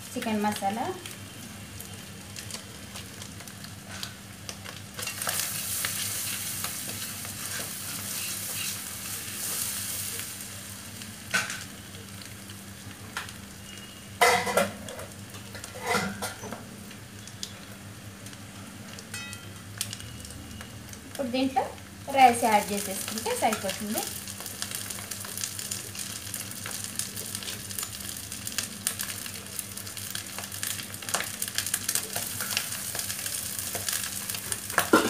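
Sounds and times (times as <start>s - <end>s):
egg sizzling in frying pan: 0.0s - 35.0s.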